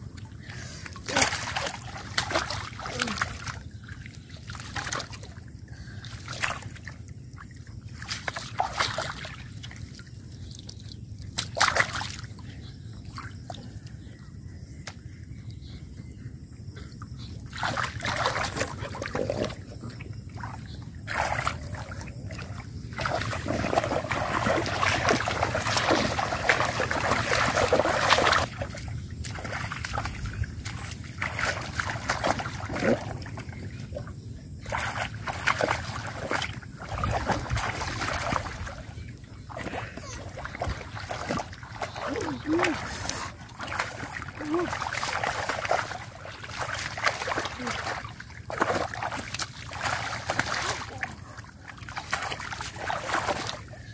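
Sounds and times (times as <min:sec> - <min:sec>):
wading through muddy water: 0:00.0 - 0:53.9.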